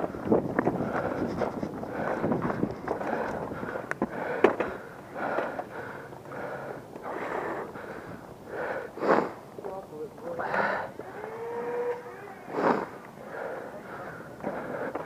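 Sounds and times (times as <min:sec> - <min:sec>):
person breathing heavily: 0:00.0 - 0:09.5, 0:10.3 - 0:11.2, 0:12.5 - 0:15.0.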